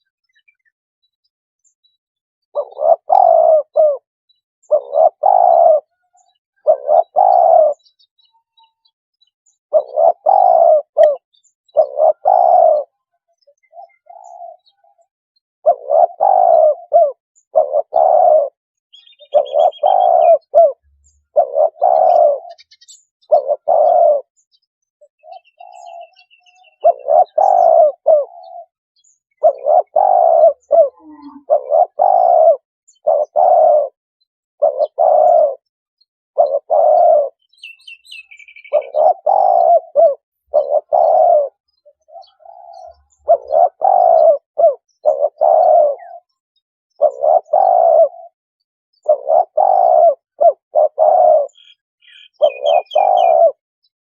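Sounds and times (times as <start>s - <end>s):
small birds chirping: 0.0s - 54.0s
dove cooing: 2.5s - 8.0s, 9.7s - 24.4s, 25.1s - 34.0s, 34.6s - 35.7s, 36.4s - 46.4s, 47.0s - 53.6s.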